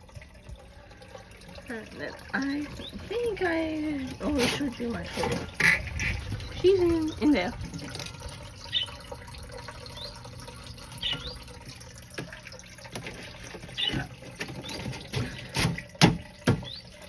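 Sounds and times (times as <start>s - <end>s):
high water plinks: 0.0s - 17.0s
water dripping and trickling: 0.0s - 17.0s.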